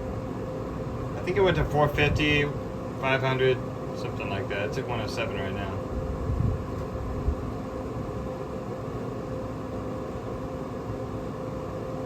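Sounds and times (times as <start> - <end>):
grill fan humming: 0.0 - 12.0.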